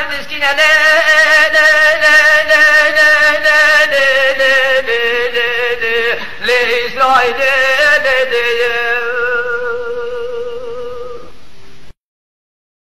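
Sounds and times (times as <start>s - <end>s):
man singing solo: 0.0s - 11.4s.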